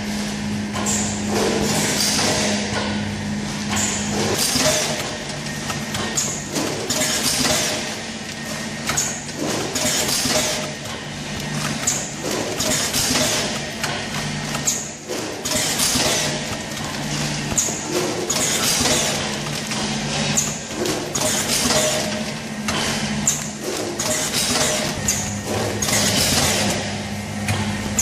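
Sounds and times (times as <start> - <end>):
machine clatter and hiss: 0.0 - 28.0
packing machine hum: 0.0 - 28.0.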